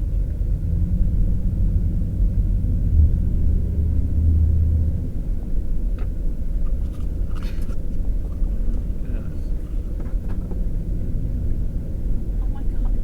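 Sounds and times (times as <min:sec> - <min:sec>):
vehicle engine rumble from cabin: 0:00.0 - 0:13.0.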